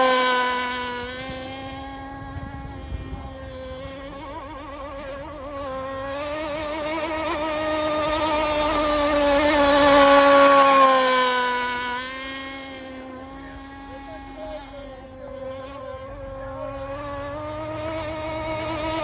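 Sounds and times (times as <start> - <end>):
model boat gas engine passing: 0.0 - 19.0.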